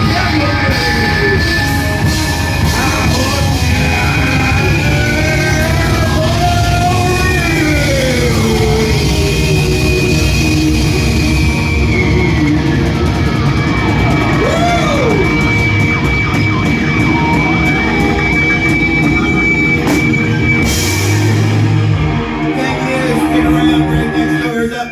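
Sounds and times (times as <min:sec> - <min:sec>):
live rock band playing: 0:00.0 - 0:24.9.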